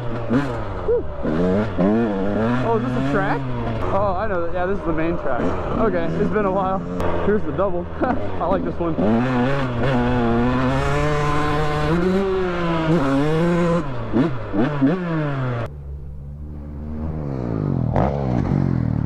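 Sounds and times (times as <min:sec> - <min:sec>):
two-stroke dirt bike engine revving: 0:00.0 - 0:19.0.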